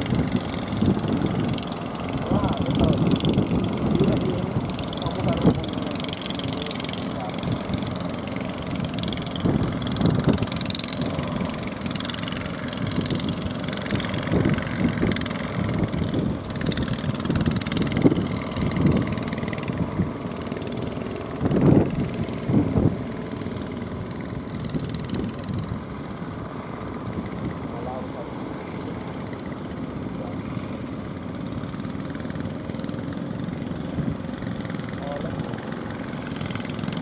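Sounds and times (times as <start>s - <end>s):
boat engines rumbling: 0.0s - 37.0s.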